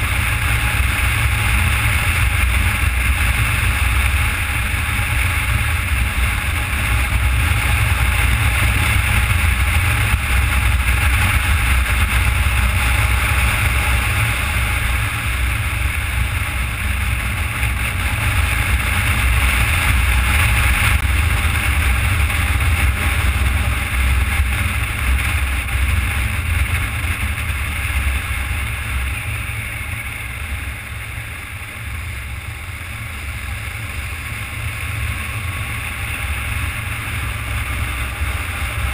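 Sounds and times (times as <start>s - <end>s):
motorcycle engine drone: 0.0s - 38.9s.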